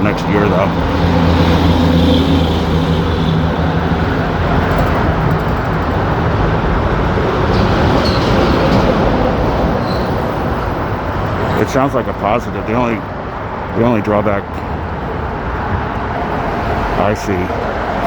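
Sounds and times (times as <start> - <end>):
heavy vehicle engine hum: 0.0 - 18.0
motor traffic passing close: 0.0 - 18.0.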